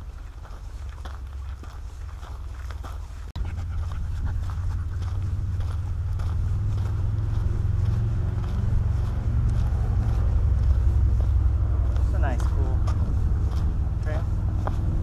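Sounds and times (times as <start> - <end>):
footsteps on dirt trail: 0.0 - 15.0
steady low rumble: 0.0 - 15.0.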